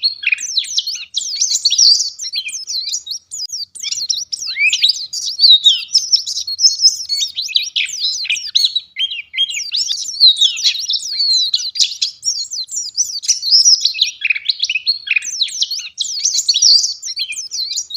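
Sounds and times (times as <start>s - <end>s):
bird twittering song: 0.0s - 17.9s.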